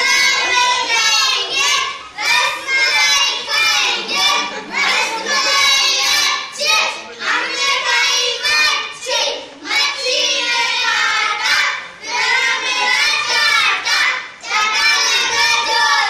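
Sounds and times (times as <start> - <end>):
young children singing: 0.0 - 16.0.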